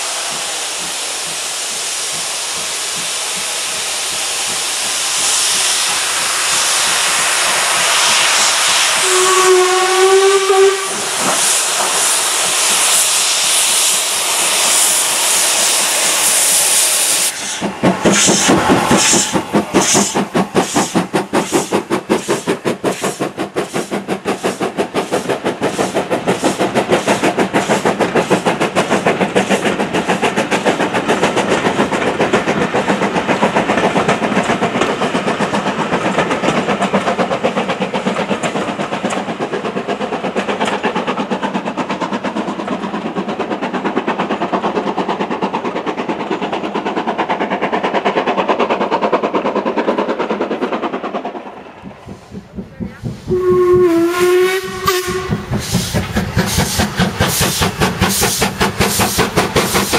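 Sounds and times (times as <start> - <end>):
steam locomotive exhaust beating: 0.0 - 59.9
train wheels clickety-clack: 0.0 - 59.9.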